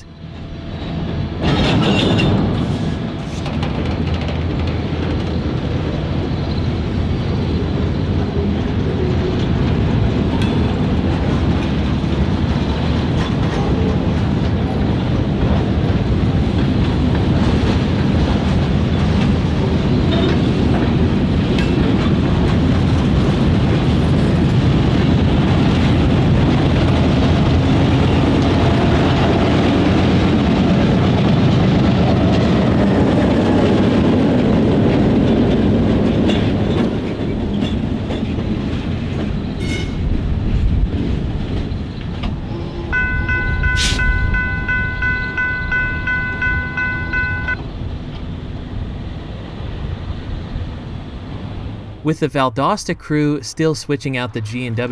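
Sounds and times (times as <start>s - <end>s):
wheels clattering on rail: 0.0s - 52.0s
freight train rumbling: 0.0s - 54.9s.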